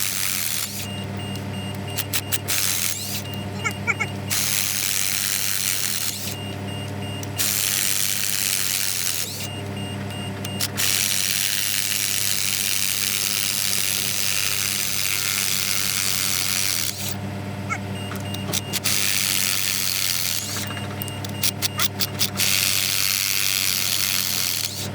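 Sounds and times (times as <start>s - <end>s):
steady machine hum: 0.0s - 21.8s.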